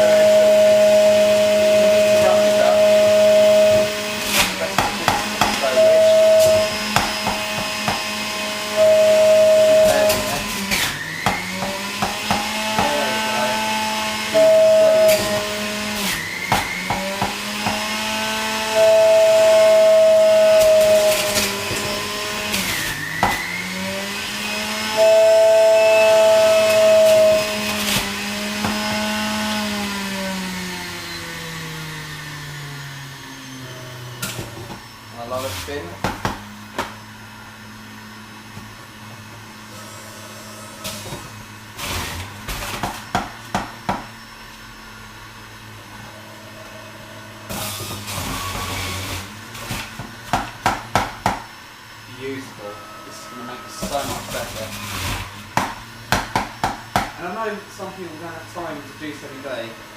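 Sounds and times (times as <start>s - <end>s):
loud high-pitched squeal: 0.0s - 36.0s, 39.5s - 43.2s, 44.0s - 50.0s, 51.5s - 59.9s
juicer motor running: 0.0s - 59.9s.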